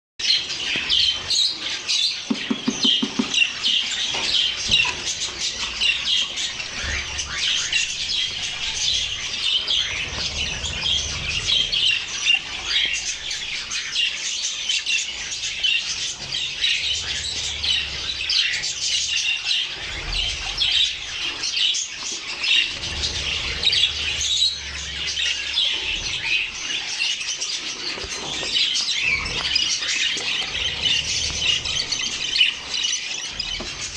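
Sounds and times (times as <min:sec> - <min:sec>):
budgerigars chattering: 0:00.2 - 0:33.9.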